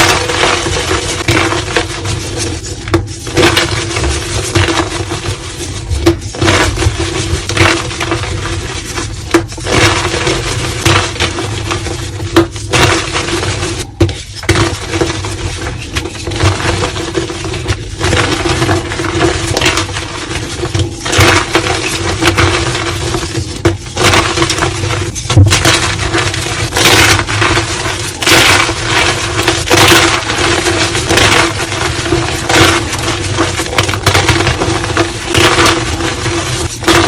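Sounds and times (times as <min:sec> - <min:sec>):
chalk crushing and crunching: 0:00.0 - 0:37.0.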